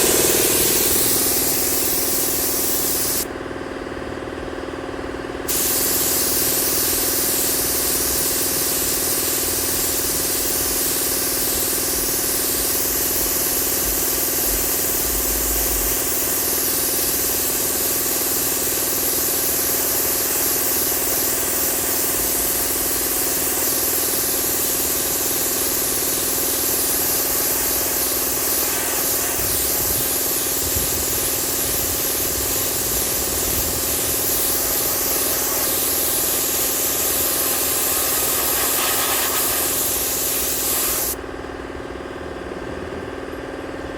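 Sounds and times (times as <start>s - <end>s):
paint spraying hiss: 0.0s - 3.3s, 5.5s - 41.2s
mechanical hum: 0.0s - 43.9s.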